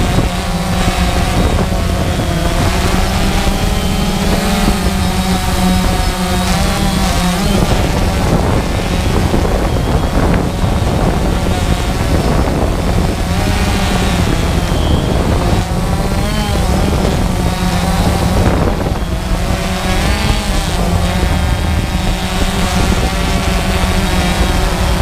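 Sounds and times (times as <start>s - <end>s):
drone propellers whirring: 0.0s - 25.0s.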